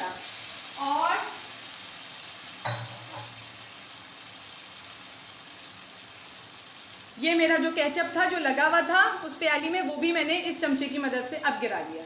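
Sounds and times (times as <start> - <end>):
sauce sizzling in frying pan: 0.0 - 12.0.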